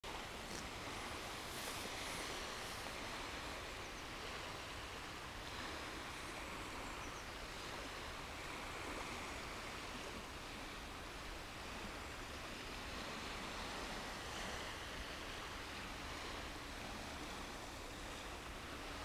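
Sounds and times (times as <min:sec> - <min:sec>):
outdoor ambient hiss over sea: 0:00.0 - 0:19.0.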